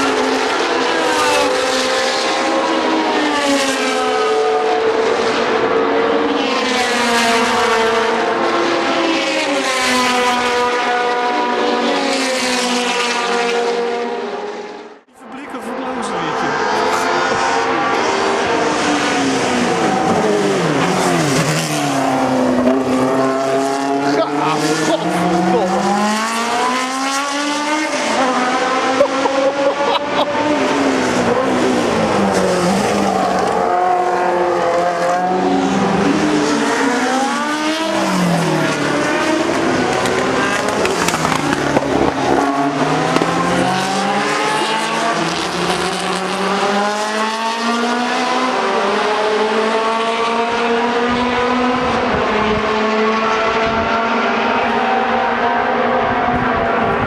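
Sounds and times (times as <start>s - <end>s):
racing car engines at high revs: 0.0s - 57.0s.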